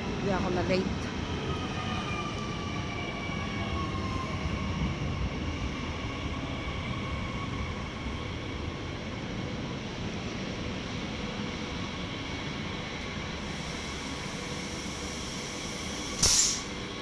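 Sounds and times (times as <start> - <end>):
train rumbling with motor whine: 0.0 - 17.0.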